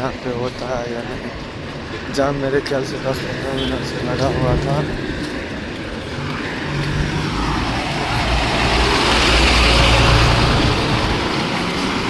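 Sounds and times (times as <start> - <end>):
heavy vehicle passing: 1.4 - 12.0.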